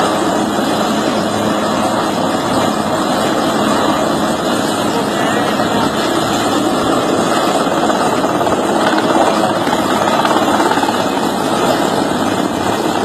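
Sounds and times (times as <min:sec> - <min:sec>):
loud steady engine noise: 0:00.0 - 0:13.0.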